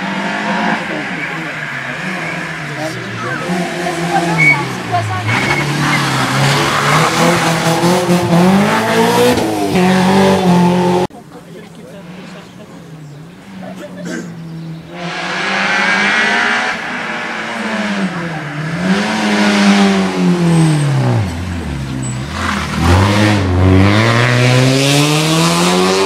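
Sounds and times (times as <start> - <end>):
rally car engine revving: 0.0 - 11.1, 12.0 - 26.0.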